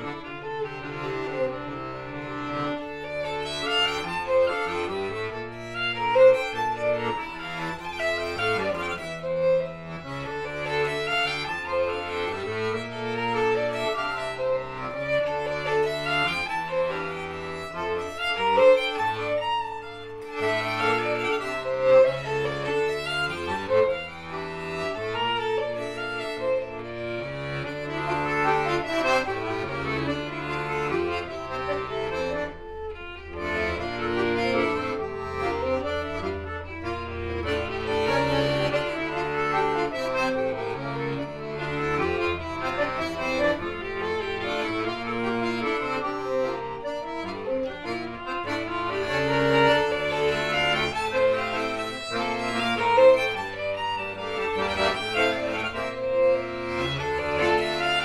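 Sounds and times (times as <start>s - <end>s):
concertina: 0.0s - 58.0s
violin: 0.0s - 58.0s.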